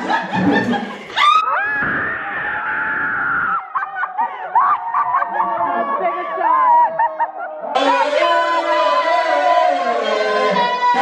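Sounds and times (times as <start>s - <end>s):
excited shrieks and laughter: 1.0s - 11.0s
people screaming: 1.1s - 11.0s.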